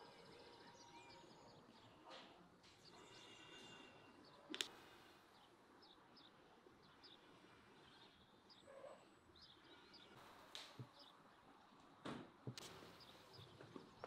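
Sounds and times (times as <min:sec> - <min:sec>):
faint bird chirps: 0:00.0 - 0:11.6, 0:12.5 - 0:14.0.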